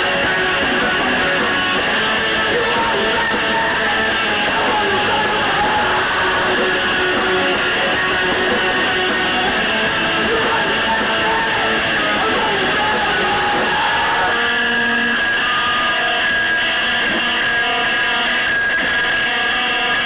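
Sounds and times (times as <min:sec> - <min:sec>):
live rock band playing: 0:00.0 - 0:17.8
electric guitars: 0:00.0 - 0:20.0.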